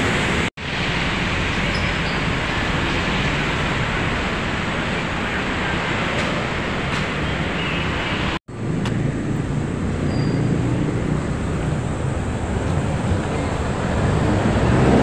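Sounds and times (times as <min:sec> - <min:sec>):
road traffic rush: 0:00.0 - 0:15.0.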